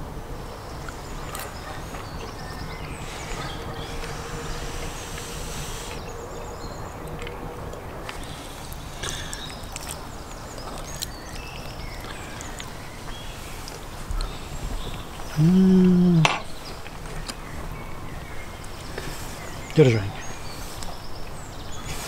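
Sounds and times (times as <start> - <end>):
birds chirping: 0.0 - 22.0
steady low background noise: 0.0 - 22.0.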